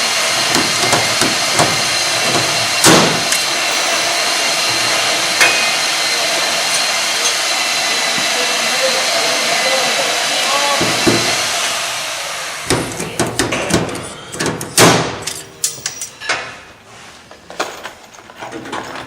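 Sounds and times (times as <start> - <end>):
hissing shop noise: 0.2 - 17.5.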